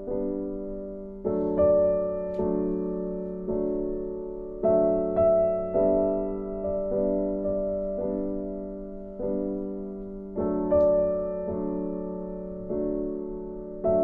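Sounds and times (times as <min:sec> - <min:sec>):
gentle piano chords: 0:00.0 - 0:14.0.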